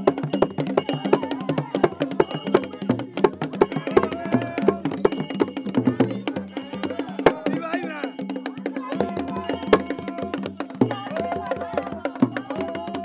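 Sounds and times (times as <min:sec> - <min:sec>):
hand drum strikes: 0:00.0 - 0:13.0
voices singing: 0:00.0 - 0:13.0.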